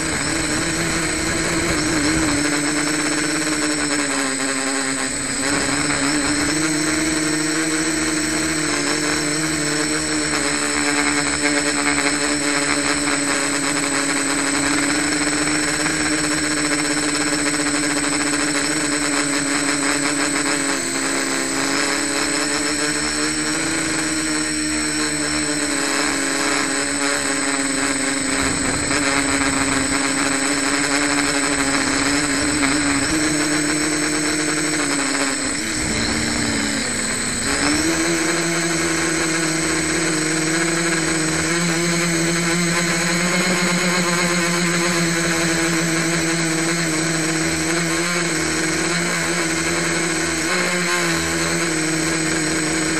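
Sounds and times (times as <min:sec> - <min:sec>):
drone motors and propellers whining: 0:00.0 - 0:52.9.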